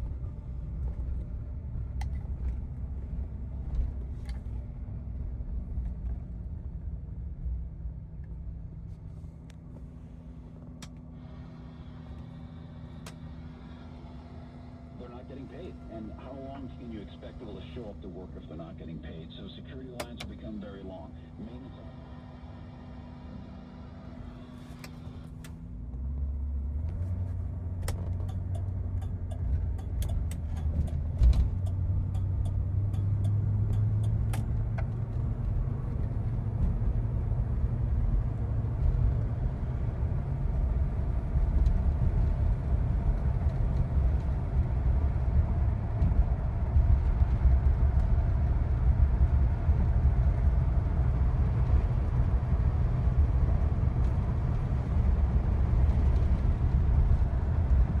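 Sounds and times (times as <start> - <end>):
car engine low rumble: 0.0 - 58.0.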